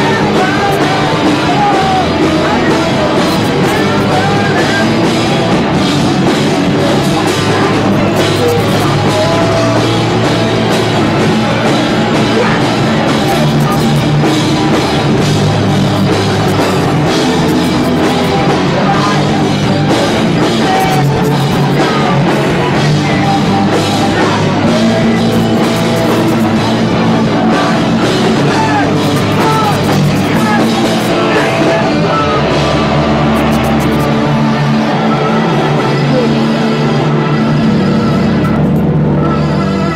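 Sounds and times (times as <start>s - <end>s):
drum kit: 0.0s - 34.2s, 38.4s - 38.9s
bass guitar: 0.0s - 39.9s
distorted electric guitar: 0.0s - 39.9s
rock band playing: 0.0s - 39.9s.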